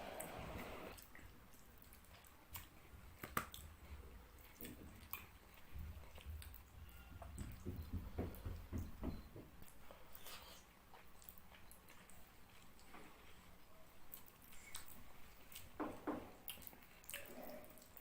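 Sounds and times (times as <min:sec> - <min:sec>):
person chewing food: 0:00.1 - 0:08.6, 0:09.6 - 0:18.0.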